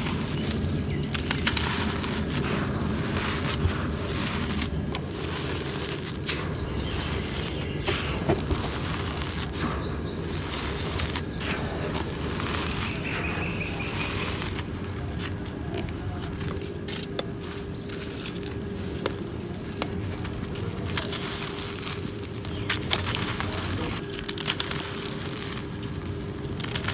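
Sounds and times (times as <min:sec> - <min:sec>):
cement chunks crackling in hand: 0:00.0 - 0:26.9.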